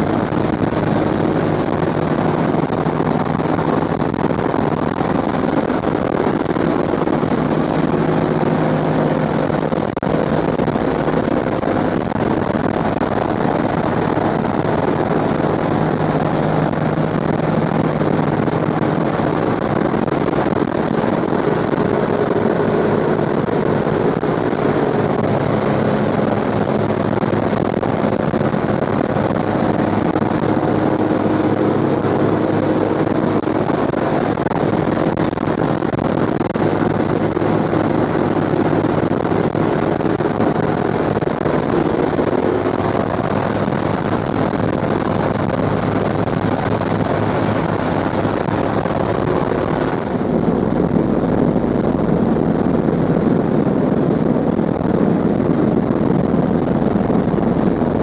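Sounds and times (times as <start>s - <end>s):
propeller aircraft engines droning: 0.0s - 58.0s.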